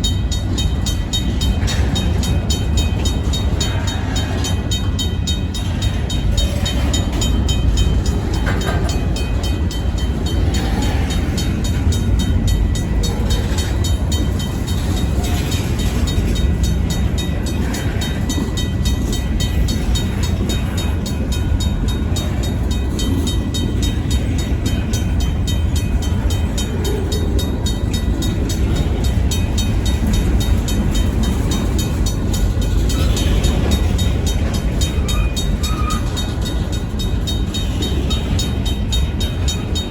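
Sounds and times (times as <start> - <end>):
crossing bell ringing: 0.0 - 39.9
diesel locomotive rumble: 0.0 - 39.9.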